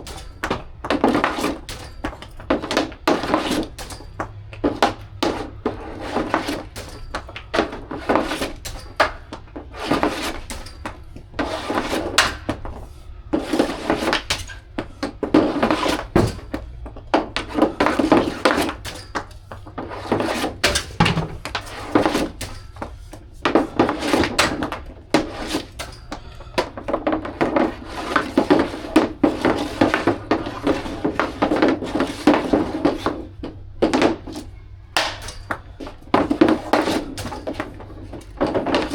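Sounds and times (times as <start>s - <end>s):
hockey stick striking puck: 0.0s - 38.9s
skate blades scraping ice: 0.0s - 38.9s.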